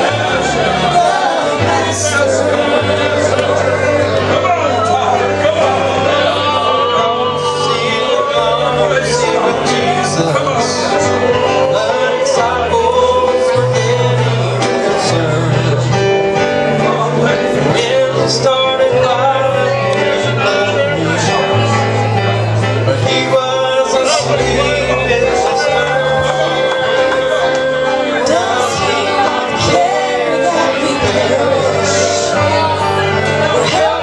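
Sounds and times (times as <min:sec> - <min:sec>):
band accompaniment: 0:00.0 - 0:34.0
bass line: 0:00.0 - 0:34.0
man singing gospel: 0:00.0 - 0:34.0.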